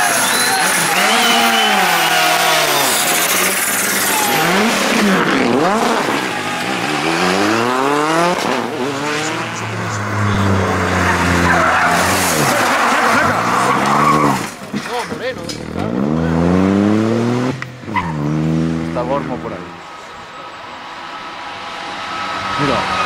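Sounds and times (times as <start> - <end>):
rally cars passing at speed: 0.0 - 23.0.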